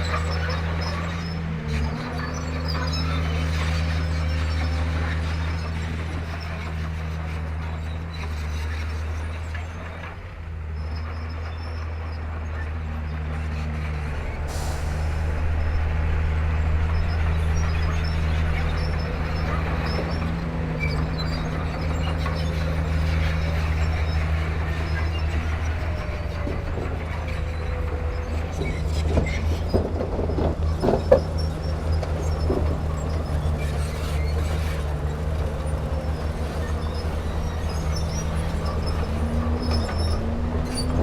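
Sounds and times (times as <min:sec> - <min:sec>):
bulldozer diesel engine droning: 0:00.0 - 0:41.0.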